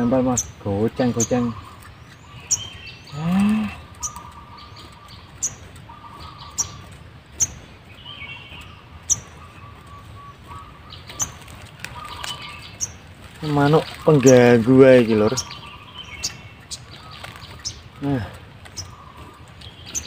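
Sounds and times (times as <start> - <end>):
songbirds chirping: 0.0 - 20.0
wavering bird trill: 0.0 - 20.0.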